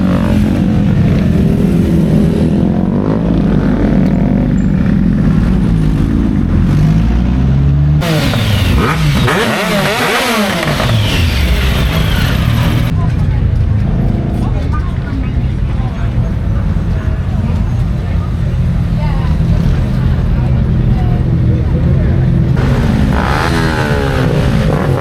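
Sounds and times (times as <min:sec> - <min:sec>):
motorcycle engine revving: 0:00.0 - 0:17.0, 0:17.6 - 0:25.0
motorcycle engines idling: 0:00.0 - 0:25.0.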